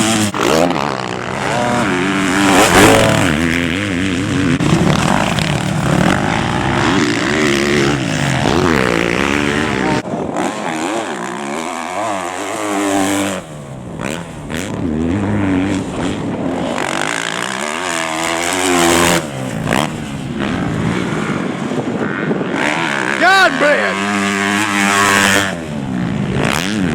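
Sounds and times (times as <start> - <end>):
motorbike engines revving: 0.0 - 26.9.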